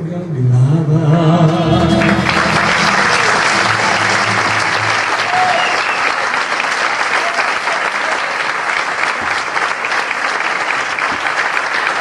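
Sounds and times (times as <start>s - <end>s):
crowd applauding: 1.5s - 12.0s.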